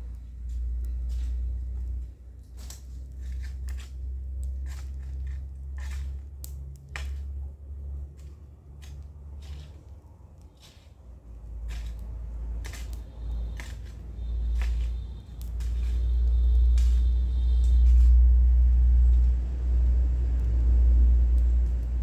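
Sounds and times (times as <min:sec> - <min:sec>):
steady low rumble: 0:00.0 - 0:22.0
clicks and snaps among plants: 0:00.1 - 0:07.4, 0:08.1 - 0:10.9, 0:11.5 - 0:18.3, 0:19.0 - 0:22.0.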